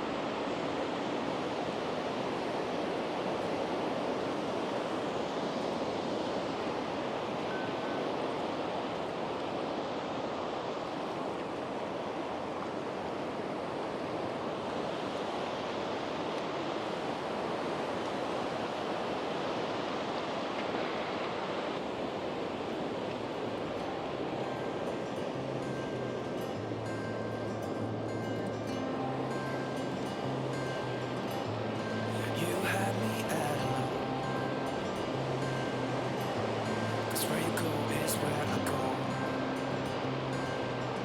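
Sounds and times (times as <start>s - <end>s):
sea surf washing onto beach: 0.0s - 41.0s.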